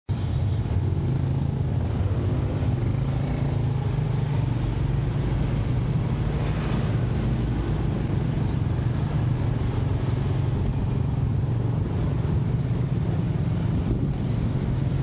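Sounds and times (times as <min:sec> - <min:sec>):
motorcycle engines running: 0:00.2 - 0:15.0
car engines running: 0:00.7 - 0:15.0.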